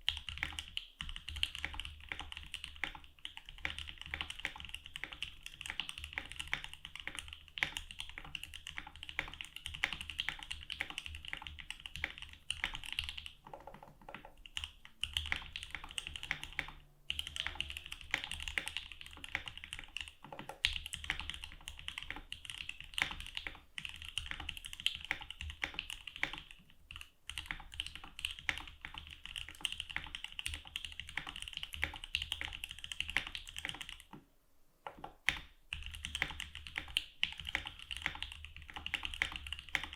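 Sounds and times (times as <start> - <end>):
fast typing on mechanical keyboard: 0.0 - 34.2, 34.9 - 39.9.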